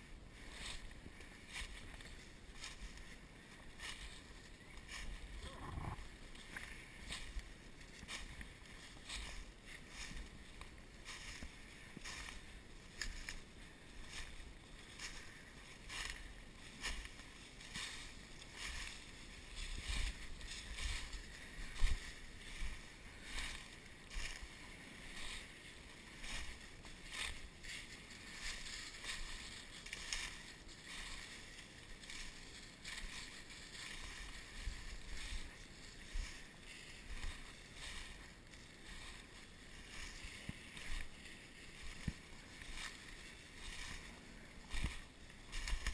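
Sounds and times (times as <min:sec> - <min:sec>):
footsteps through dry leaves: 0:00.0 - 0:45.9.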